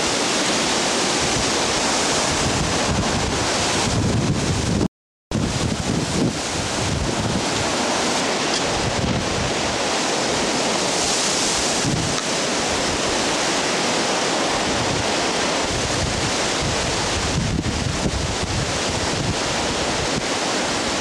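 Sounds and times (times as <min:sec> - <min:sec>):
strong wind through trees: 0:00.0 - 0:21.0
wind buffeting microphone: 0:00.0 - 0:21.0.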